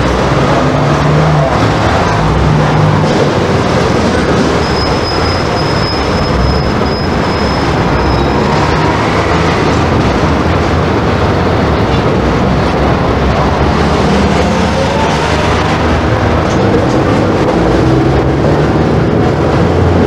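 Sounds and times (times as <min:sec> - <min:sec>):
electric tram rumbling: 0:00.0 - 0:20.0.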